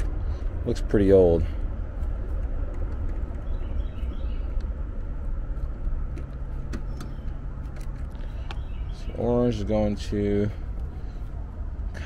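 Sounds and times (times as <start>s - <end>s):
faint steady hum: 0.0s - 12.0s
low rumble: 0.0s - 12.0s.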